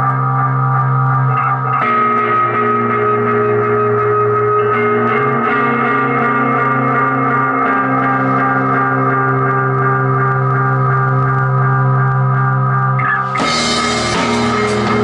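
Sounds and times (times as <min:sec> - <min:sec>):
bass guitar: 0:00.0 - 0:15.0
electric guitars ringing chords: 0:00.0 - 0:15.0.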